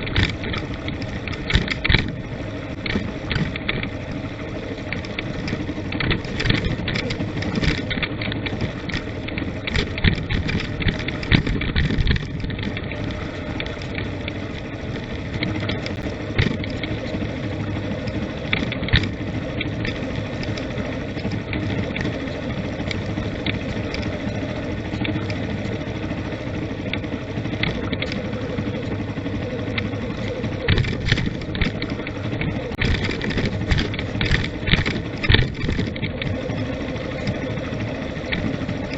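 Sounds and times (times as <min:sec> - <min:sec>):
knocks and rattles: 0:00.0 - 0:37.5
vehicle engine and road noise: 0:00.0 - 0:38.9.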